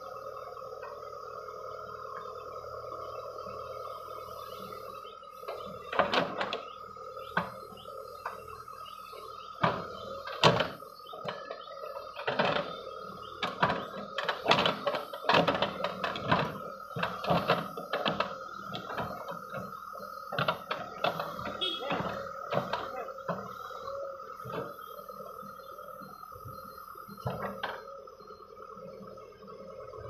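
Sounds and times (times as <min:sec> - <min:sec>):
steady high whine: 0:00.0 - 0:30.0.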